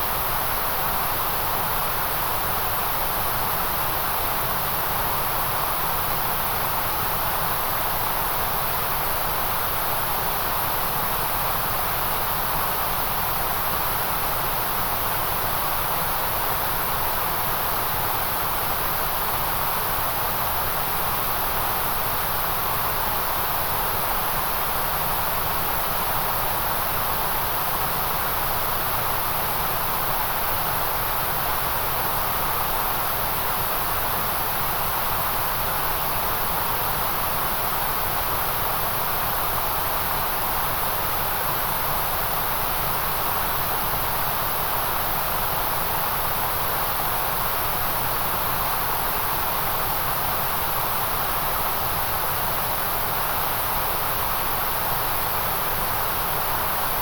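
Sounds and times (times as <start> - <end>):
electronic white noise hiss: 0.0 - 57.0.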